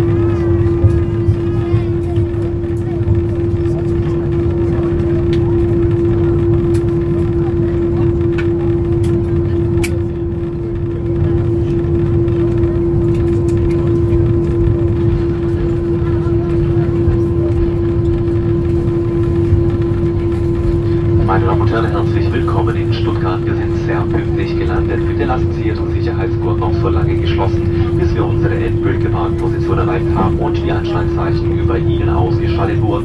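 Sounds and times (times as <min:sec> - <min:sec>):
aircraft cabin rumble: 0:00.0 - 0:33.0.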